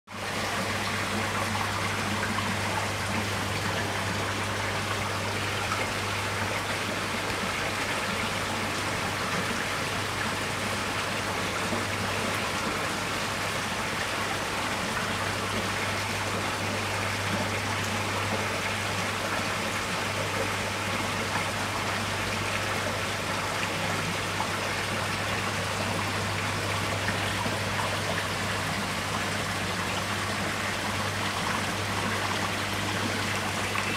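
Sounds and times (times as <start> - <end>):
water bubbling and trickling: 0.1 - 33.9.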